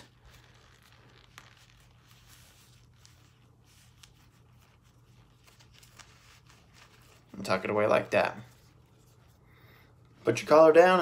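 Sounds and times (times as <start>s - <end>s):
necktie rustling: 0.0s - 11.0s.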